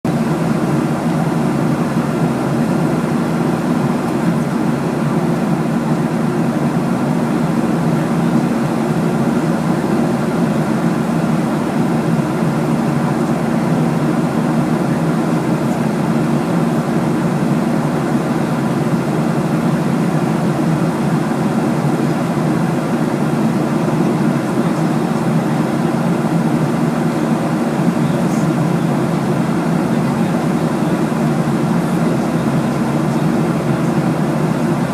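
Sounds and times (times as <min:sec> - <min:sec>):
airliner cabin engine drone: 0:00.1 - 0:34.9.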